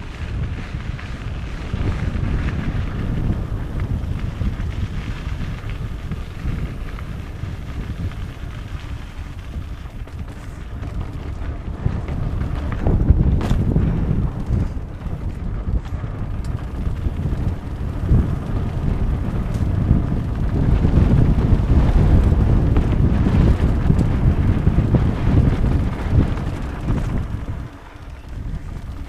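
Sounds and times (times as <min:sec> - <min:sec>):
bike tyres rolling: 0:00.0 - 0:29.0
wind buffeting microphone: 0:00.0 - 0:29.0.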